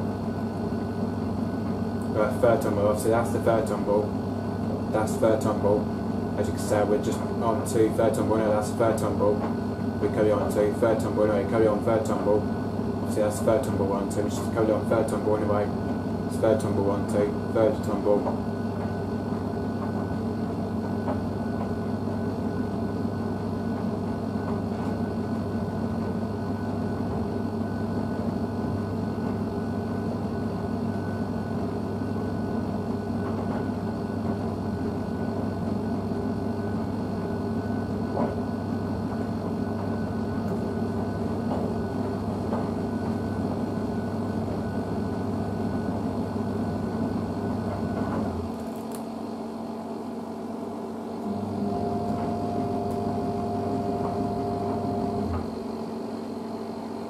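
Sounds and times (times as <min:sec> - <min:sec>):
washing machine electrical hum: 0:00.0 - 0:57.0.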